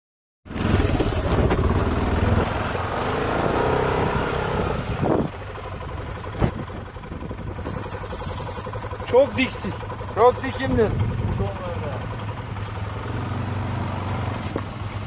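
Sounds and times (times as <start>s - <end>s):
atv engine running: 0.5s - 15.0s.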